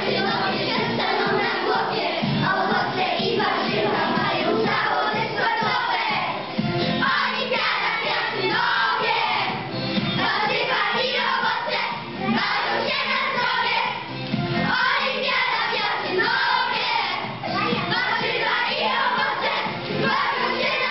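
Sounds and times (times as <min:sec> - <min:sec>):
background music: 0:00.0 - 0:20.9
children singing together: 0:00.0 - 0:20.9.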